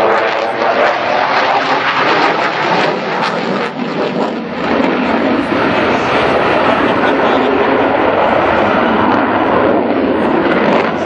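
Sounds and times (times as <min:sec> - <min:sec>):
fighter jet engine roar: 0:00.0 - 0:11.0.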